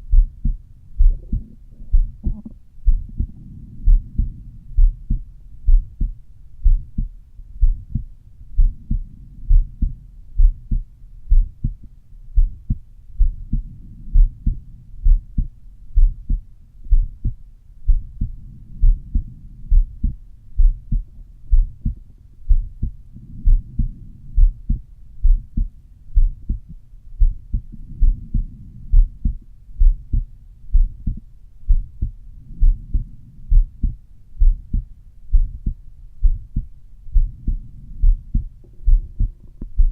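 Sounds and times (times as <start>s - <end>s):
heartbeat low thuds: 0.0s - 39.9s.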